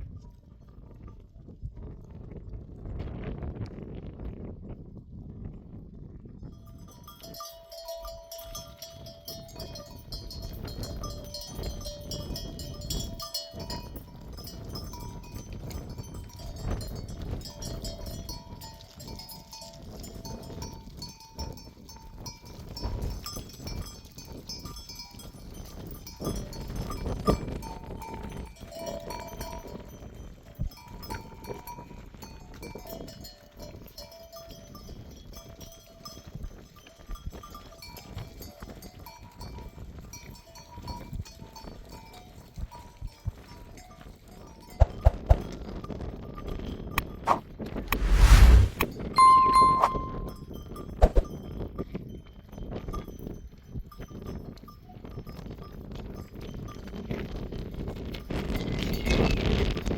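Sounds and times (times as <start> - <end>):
sheep bells clinking: 6.4 - 47.2, 49.2 - 59.6.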